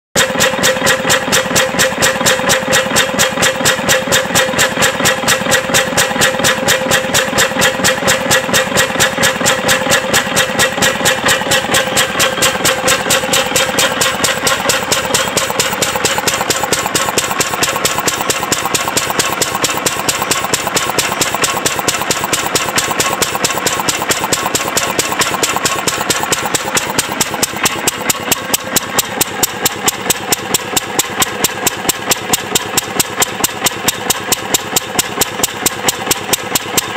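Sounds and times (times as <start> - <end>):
stationary engine running: 0.2 - 36.9.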